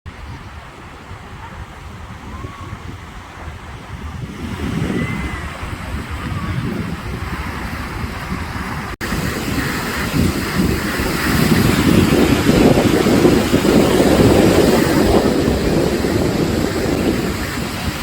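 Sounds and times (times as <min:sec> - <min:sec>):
waves washing onto shore: 0:00.1 - 0:18.0
wind rumbling on microphone: 0:00.1 - 0:18.0.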